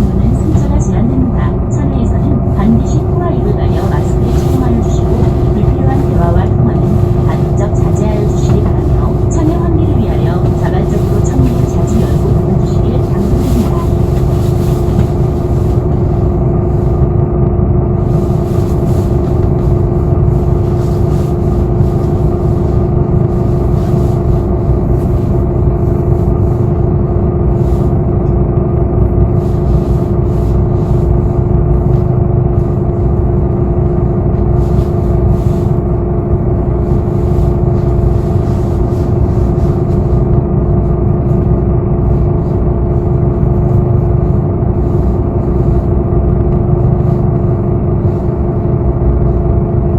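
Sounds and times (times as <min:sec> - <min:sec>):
bus engine and road rumble: 0:00.0 - 0:49.9
constant hum: 0:00.0 - 0:49.9.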